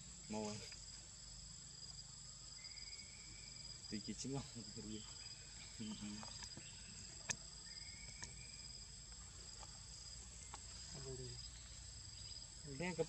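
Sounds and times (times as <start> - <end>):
faint high-pitched insect chorus: 0.0 - 13.0.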